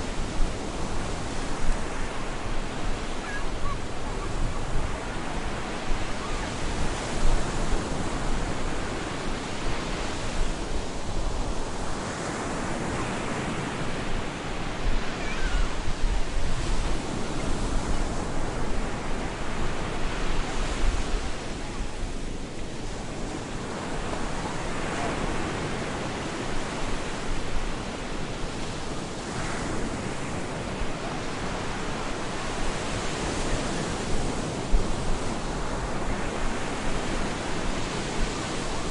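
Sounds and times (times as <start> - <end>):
waves breaking on a beach: 0.0 - 38.9
wind: 0.0 - 38.9.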